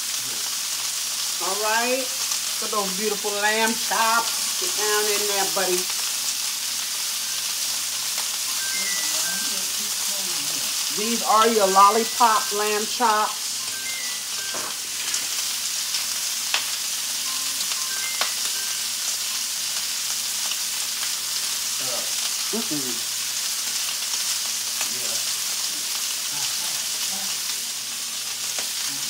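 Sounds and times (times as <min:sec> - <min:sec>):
meat sizzling in a skillet: 0:00.0 - 0:29.0.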